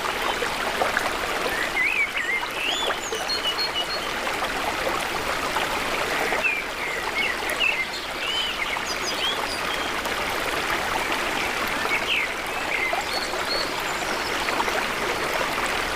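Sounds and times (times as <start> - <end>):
river water running: 0.0 - 15.9.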